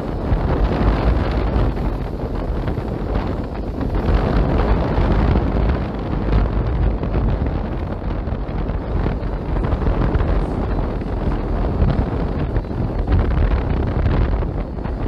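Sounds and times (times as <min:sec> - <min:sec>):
boat rushing through water: 0:00.0 - 0:15.0
wind buffeting microphone: 0:00.0 - 0:15.0.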